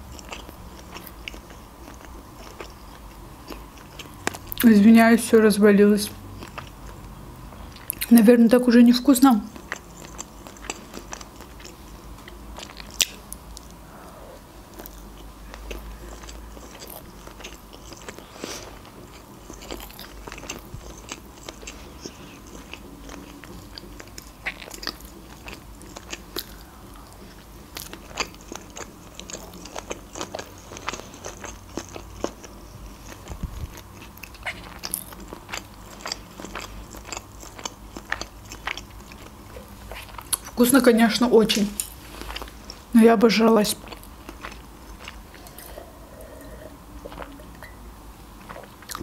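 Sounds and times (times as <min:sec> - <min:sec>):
person chewing crunchy food: 0:00.0 - 0:04.6, 0:06.3 - 0:08.1, 0:09.5 - 0:40.6, 0:41.8 - 0:42.9, 0:43.8 - 0:49.0.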